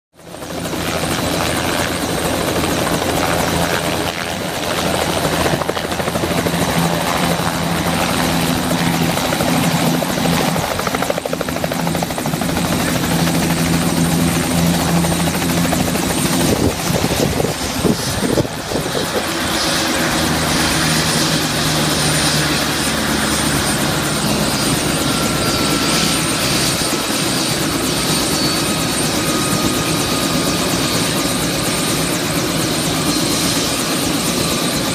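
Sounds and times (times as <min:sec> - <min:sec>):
helicopter turbine whine: 0:00.2 - 0:34.9.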